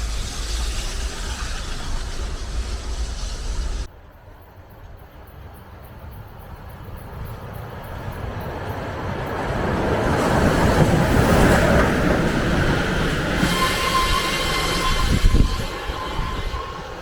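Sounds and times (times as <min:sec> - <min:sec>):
steam locomotive rumble: 0:00.0 - 0:17.0.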